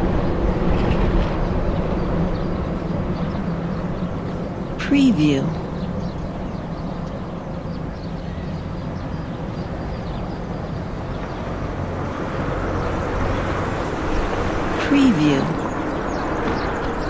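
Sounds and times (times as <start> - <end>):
street noise with low rumble: 0.0 - 17.0.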